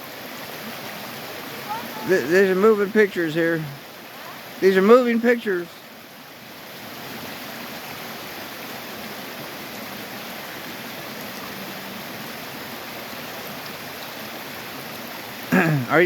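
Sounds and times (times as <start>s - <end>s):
creek water running over rocks: 0.0s - 16.0s.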